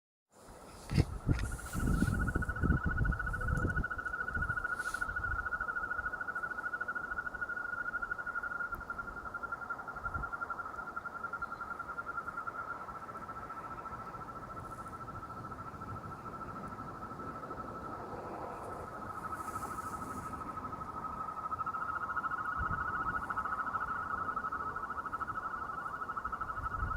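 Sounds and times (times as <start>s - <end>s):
frog pulsing trill: 0.9s - 26.9s.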